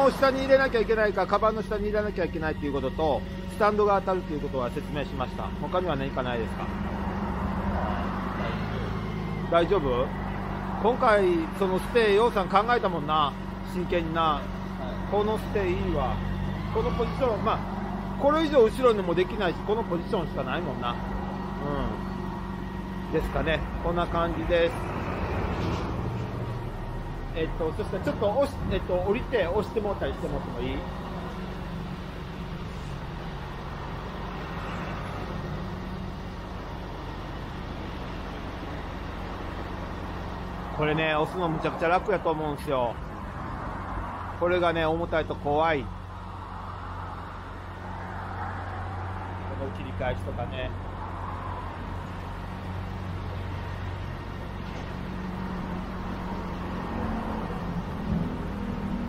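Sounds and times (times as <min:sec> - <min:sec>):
street traffic: 0:00.0 - 0:59.0
vehicle engine idling: 0:00.0 - 0:59.0.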